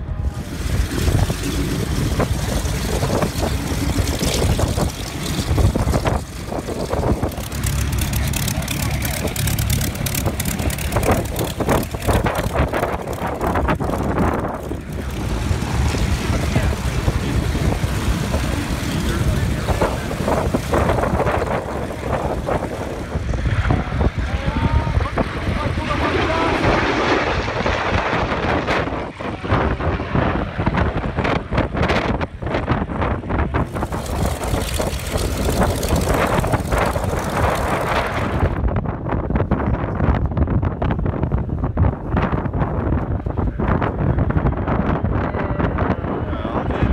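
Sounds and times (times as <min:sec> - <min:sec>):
propeller aircraft engine running: 0:00.0 - 0:46.9
wind buffeting microphone: 0:00.0 - 0:46.9.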